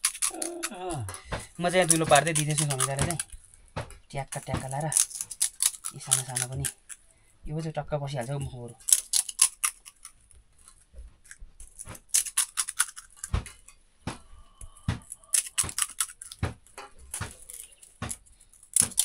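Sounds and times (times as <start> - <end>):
crisp shells cracking: 0.0 - 7.2, 8.2 - 13.8, 14.5 - 19.0.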